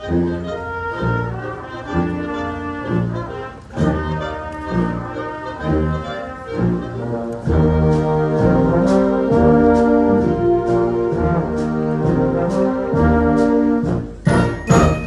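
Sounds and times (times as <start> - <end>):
concert band playing swing: 0.0 - 15.0.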